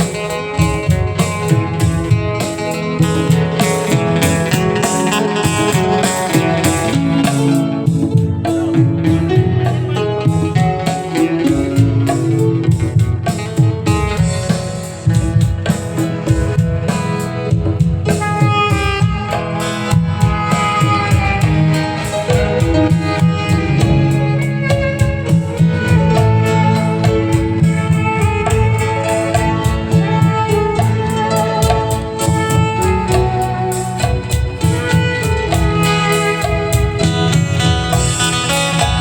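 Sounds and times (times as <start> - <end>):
loud music with drum beat: 0.0 - 39.0.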